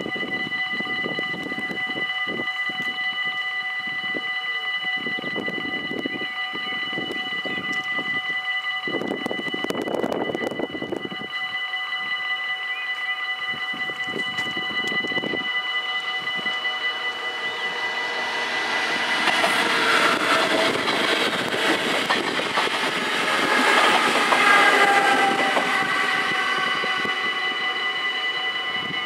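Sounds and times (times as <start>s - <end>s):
crossing warning bells ringing: 0.0s - 29.0s
electric train passing: 0.0s - 29.0s.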